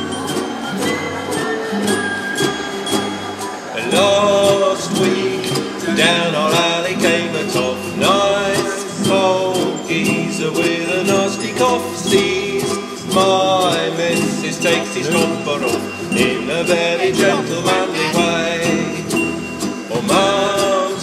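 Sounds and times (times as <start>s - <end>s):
upbeat instrumental music-hall tune: 0.0s - 21.0s.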